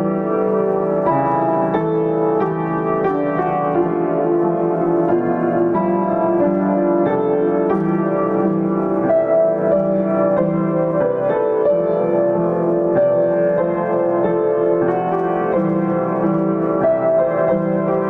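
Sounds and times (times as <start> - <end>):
solo piano playing: 0.0 - 18.0.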